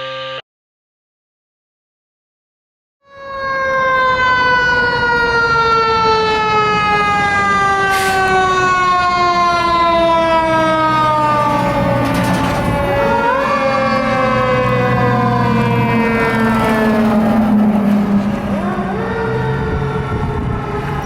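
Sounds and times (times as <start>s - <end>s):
fire truck siren wailing: 0.0s - 0.4s, 3.0s - 21.0s
truck engine: 4.0s - 21.0s.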